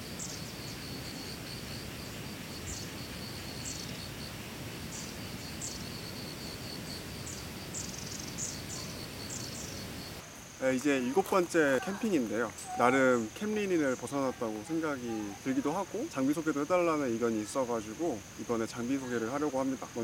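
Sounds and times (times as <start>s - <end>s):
falling insect chirps: 0.0s - 20.0s
insect high-pitched trill: 0.0s - 20.0s
low background hiss: 0.0s - 20.0s.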